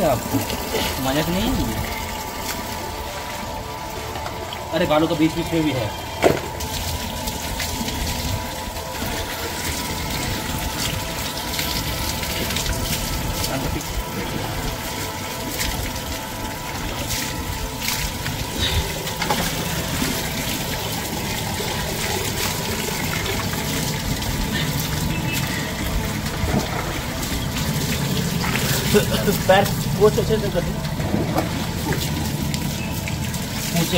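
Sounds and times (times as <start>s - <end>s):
water splashing on tiles: 6.3s - 33.9s.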